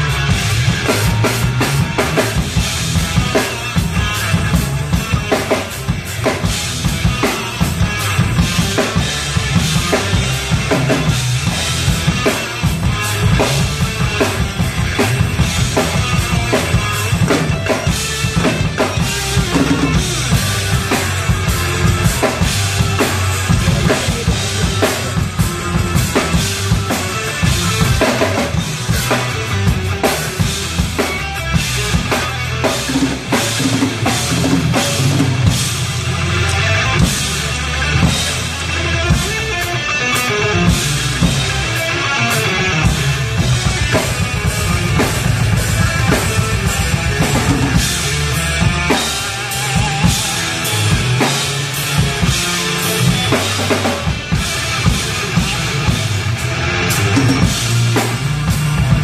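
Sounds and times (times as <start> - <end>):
fast drum kit: 0.0 - 59.0
guitar and keyboards: 0.0 - 59.0.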